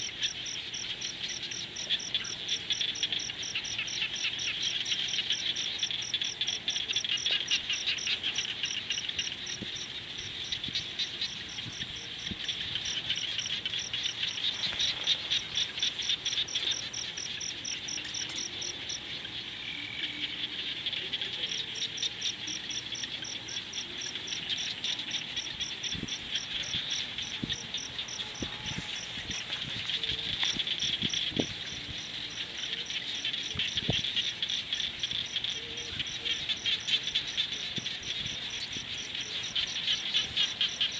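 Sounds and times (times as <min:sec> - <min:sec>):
crickets trilling: 0:00.0 - 0:40.9
frogs pulsing call: 0:00.0 - 0:40.9.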